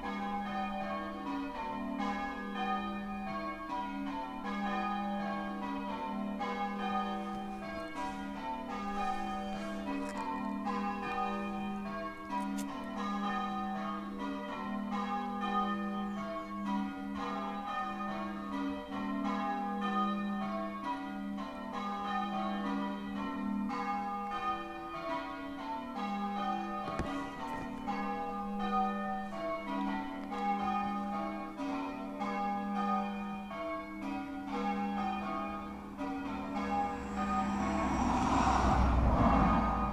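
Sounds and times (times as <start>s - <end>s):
church bells ringing changes: 0.0s - 39.9s.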